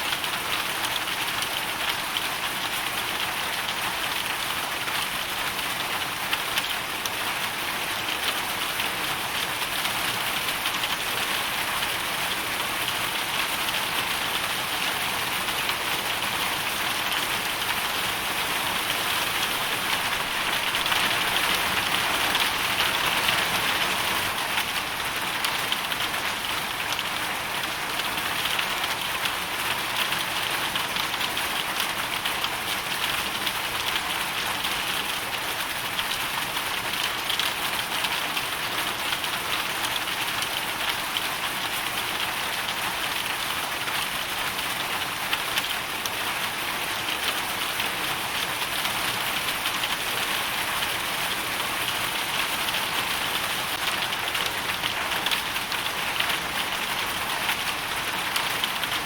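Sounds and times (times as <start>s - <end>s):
hail and rain pattering: 0.1s - 59.0s.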